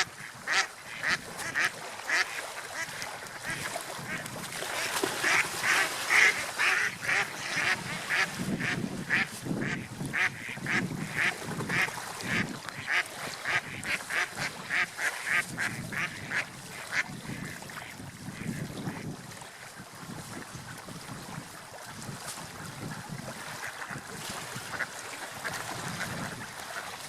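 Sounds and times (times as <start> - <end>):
ducks quacking: 0.0 - 4.2, 4.8 - 19.0, 22.9 - 27.0.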